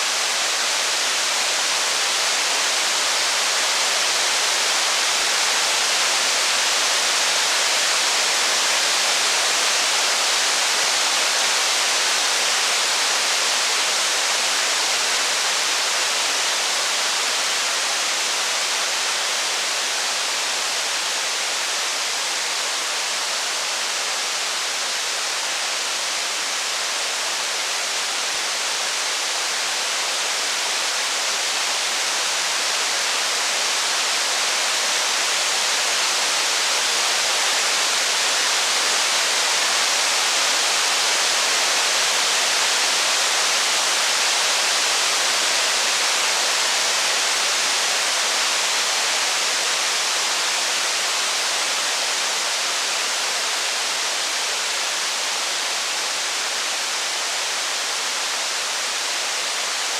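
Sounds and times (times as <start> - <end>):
heavy rain on wooden cabin: 0.0 - 59.9.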